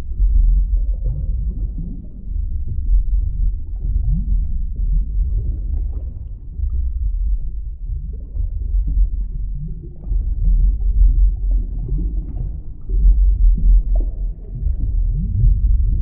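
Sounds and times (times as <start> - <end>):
muffled underwater rumble: 0.0 - 16.0
water gurgling: 0.0 - 16.0.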